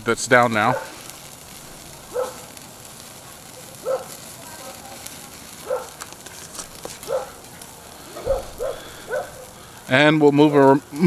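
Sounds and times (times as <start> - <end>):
fire crackling: 0.0 - 11.0
meat sizzling on grill: 0.0 - 11.0.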